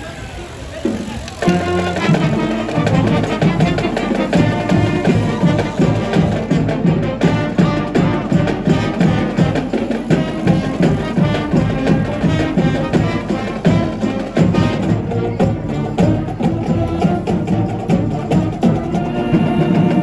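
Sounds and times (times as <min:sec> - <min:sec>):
background music with percussion: 0:01.4 - 0:20.0.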